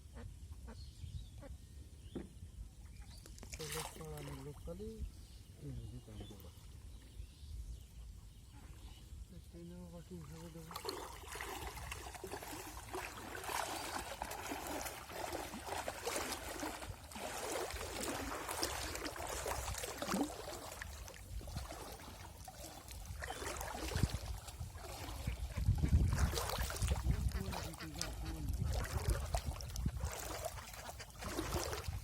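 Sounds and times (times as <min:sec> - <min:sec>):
water splashing and sloshing: 0:02.1 - 0:05.0, 0:08.4 - 0:32.0.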